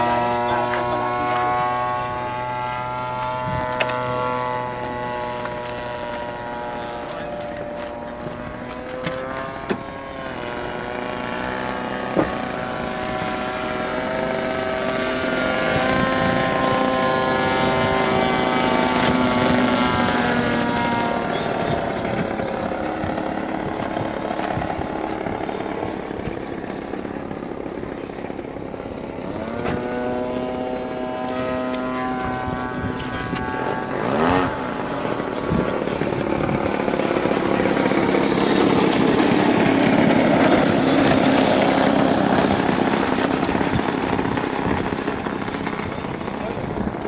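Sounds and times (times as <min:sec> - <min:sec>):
model airplane motor: 0:00.0 - 0:47.0.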